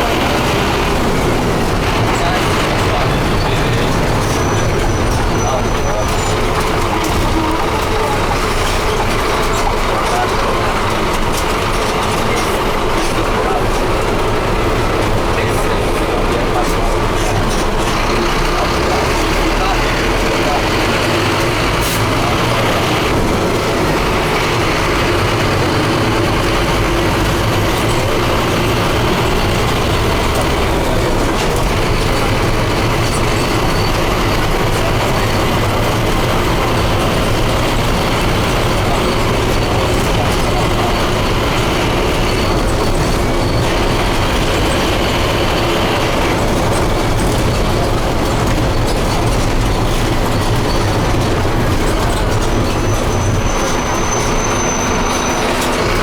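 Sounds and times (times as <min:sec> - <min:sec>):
diesel bus engine drone: 0:00.0 - 0:56.0
road and body rattle: 0:00.0 - 0:56.0.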